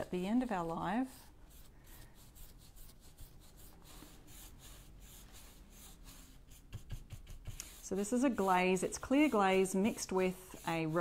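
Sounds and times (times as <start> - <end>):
applicator rubbing on wood: 0.6 - 11.0.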